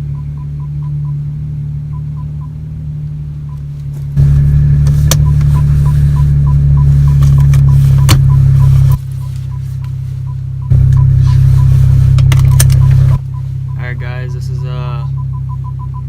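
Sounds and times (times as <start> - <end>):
car exhaust drone: 0.0 - 16.0.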